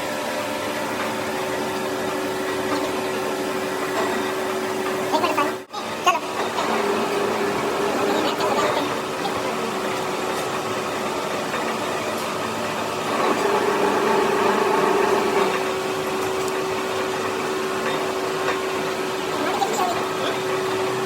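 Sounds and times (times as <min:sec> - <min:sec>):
workshop machine humming: 0:00.0 - 0:21.0.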